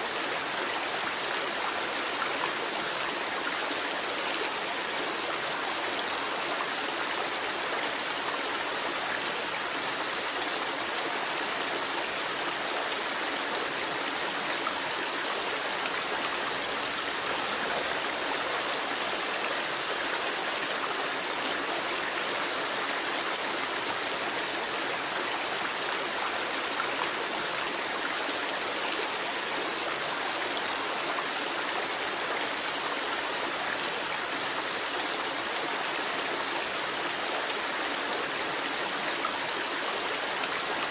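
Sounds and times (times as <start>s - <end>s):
running water in a creek: 0.0s - 40.9s.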